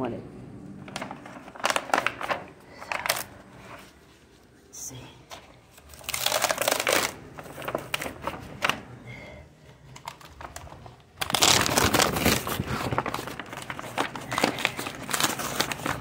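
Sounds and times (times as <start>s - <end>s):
paper crinkling and rustling: 0.8s - 4.5s, 5.3s - 9.0s, 9.8s - 16.0s.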